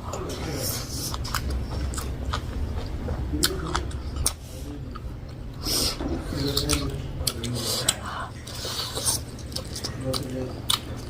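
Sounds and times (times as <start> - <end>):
steady low hum: 0.0 - 11.0
chewing with wet mouth clicks: 0.9 - 5.6, 6.3 - 11.0.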